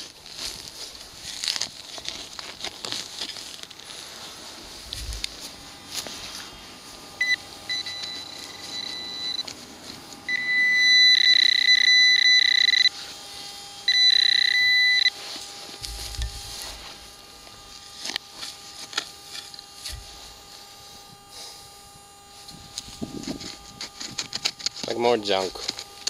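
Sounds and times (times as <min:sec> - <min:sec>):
pinpointer buzzing: 0:00.0 - 0:26.0.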